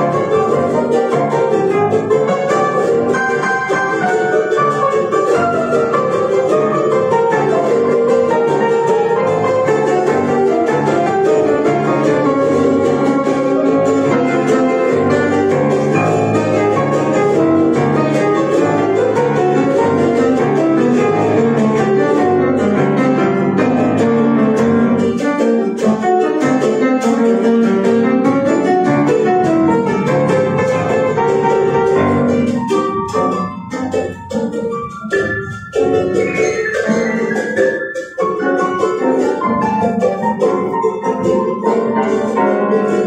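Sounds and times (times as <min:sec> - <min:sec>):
grand piano: 0:00.0 - 0:43.0
jarana strumming: 0:00.0 - 0:43.0.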